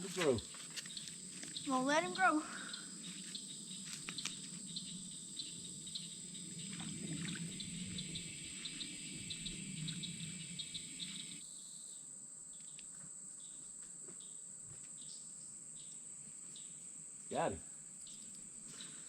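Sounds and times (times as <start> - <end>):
insect chirps: 0.0 - 19.0
insects droning: 0.0 - 19.0.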